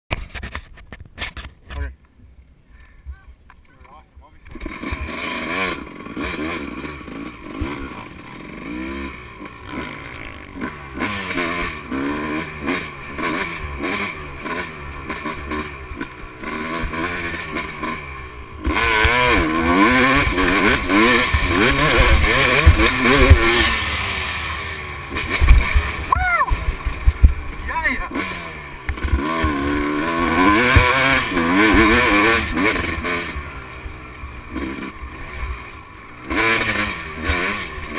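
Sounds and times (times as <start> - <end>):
dirt bike engine revving: 4.4 - 37.9.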